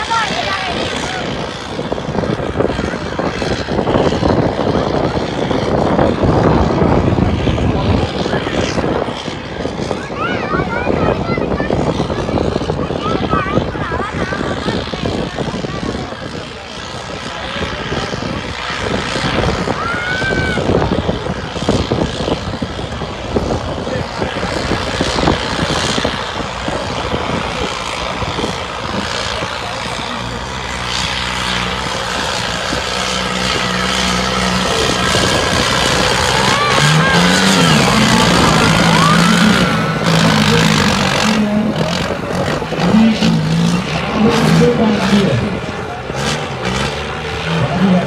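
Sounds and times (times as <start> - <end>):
crowd noise: 0.0 - 48.0
tractor engine under heavy load: 0.0 - 48.0.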